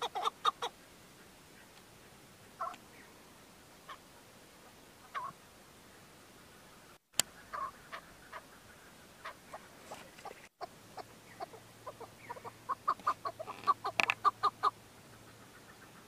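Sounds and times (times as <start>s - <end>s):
partridge clucking calls: 0.0s - 3.1s, 3.8s - 5.4s, 6.5s - 16.0s.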